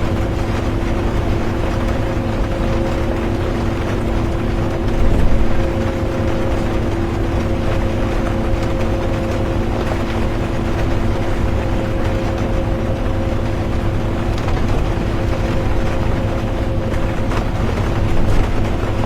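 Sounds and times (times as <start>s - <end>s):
bus engine and road rumble: 0.0s - 19.0s
drivetrain hum: 0.0s - 19.0s.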